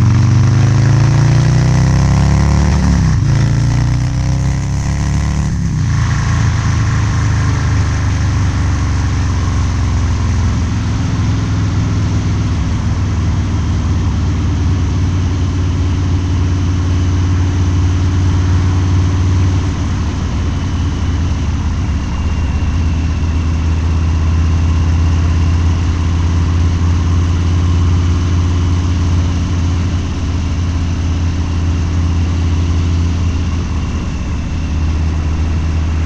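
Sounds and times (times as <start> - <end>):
motorcycle engine at low speed: 0.0 - 36.0.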